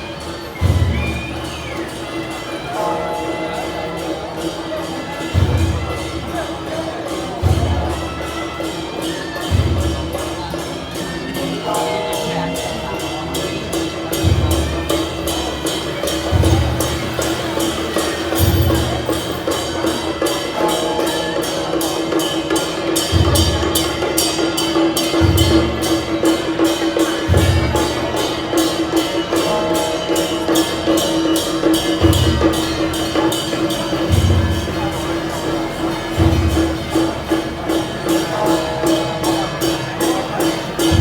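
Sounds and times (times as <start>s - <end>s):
big drum beats: 0.0s - 41.0s.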